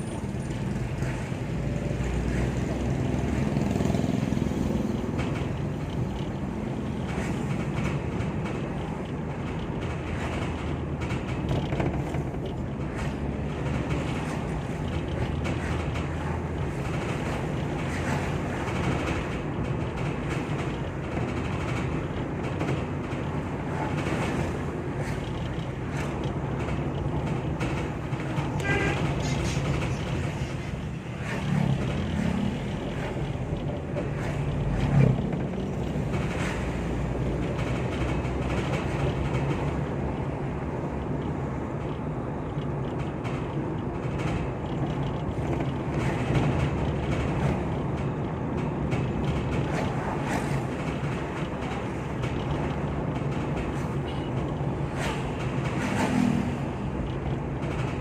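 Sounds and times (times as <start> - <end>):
vehicle road and engine noise: 0.0 - 58.0
rattles and knocks: 0.2 - 58.0.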